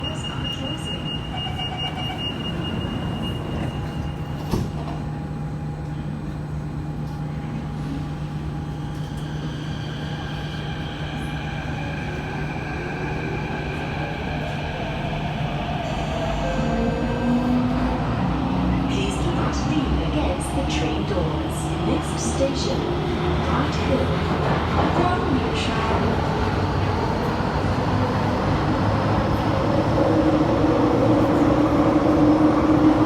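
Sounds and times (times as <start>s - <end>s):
metro train low hum: 0.0s - 33.0s.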